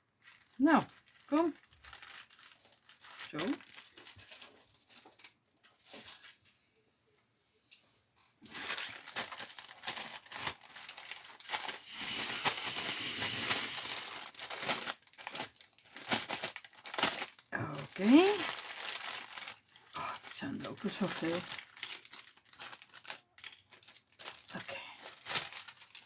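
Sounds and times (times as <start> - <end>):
cellophane bag crinkling: 0.2 - 6.4, 8.4 - 26.0.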